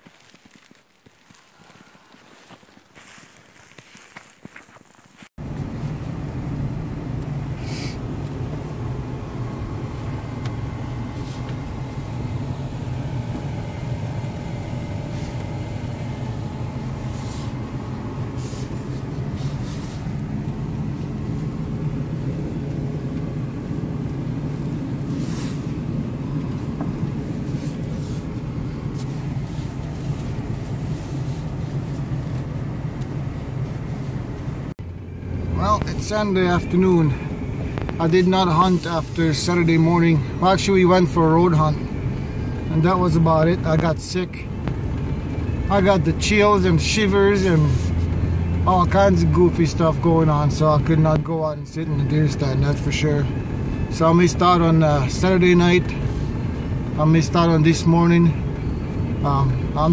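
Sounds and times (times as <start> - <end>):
truck engine and tyre rumble: 0.0 - 59.9.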